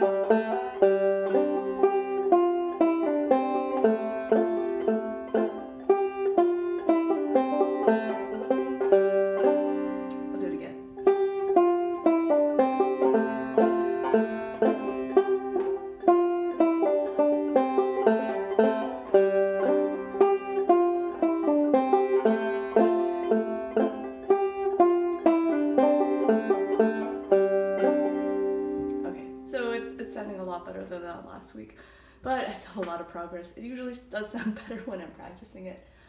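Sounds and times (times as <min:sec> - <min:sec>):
banjo playing: 0:00.0 - 0:31.6.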